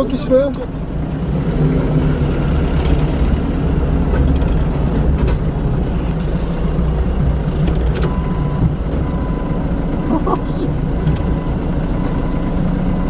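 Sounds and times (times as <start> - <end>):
forklift engine running: 0.0 - 13.0.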